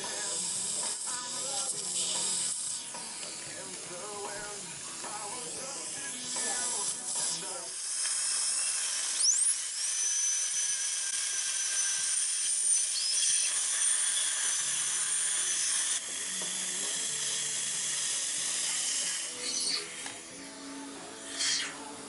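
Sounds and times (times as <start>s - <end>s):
dental drill whining: 0.0s - 22.0s
suction tube hissing: 0.0s - 22.0s.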